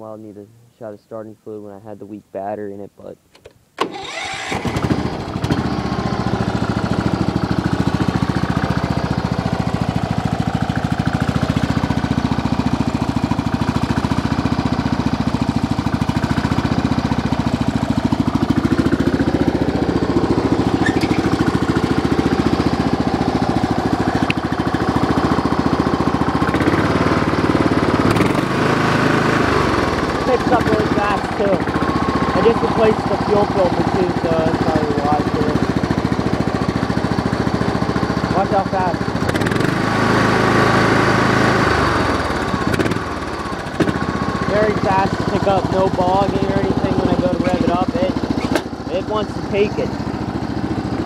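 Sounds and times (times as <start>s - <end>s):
small engine running: 3.8s - 51.0s.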